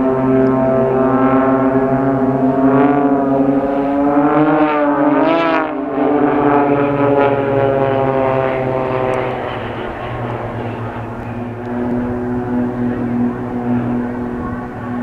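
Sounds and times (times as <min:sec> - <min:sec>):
propeller aircraft droning overhead: 0:00.0 - 0:15.0.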